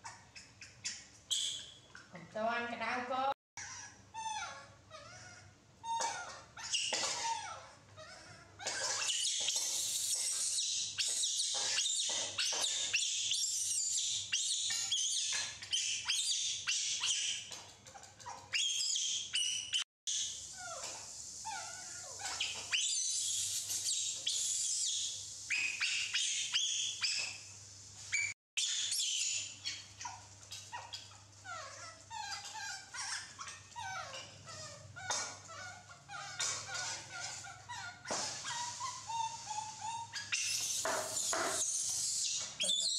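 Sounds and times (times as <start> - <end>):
baby monkeys squeaking and chirping: 0.0 - 1.9, 3.6 - 27.5, 28.1 - 42.9.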